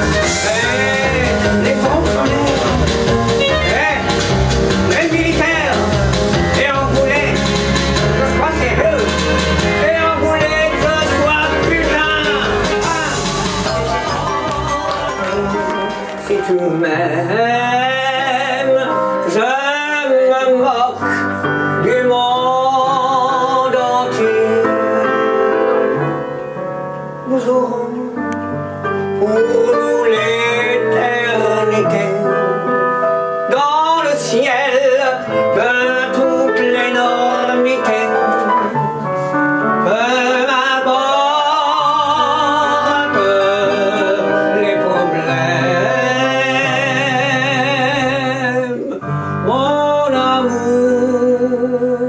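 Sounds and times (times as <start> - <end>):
man singing with vibrato: 0.0 - 26.3, 27.1 - 52.0
instrumental accompaniment: 0.0 - 52.0.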